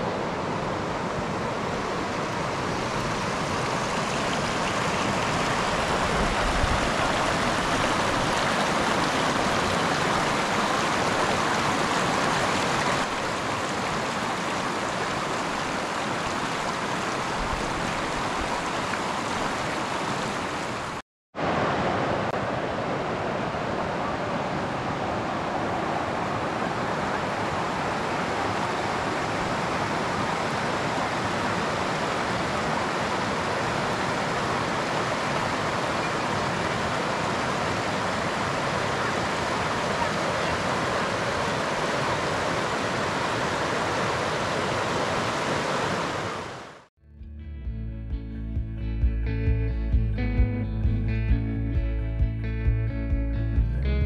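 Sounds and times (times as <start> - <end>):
water rushing over river rapids: 0.0 - 46.9.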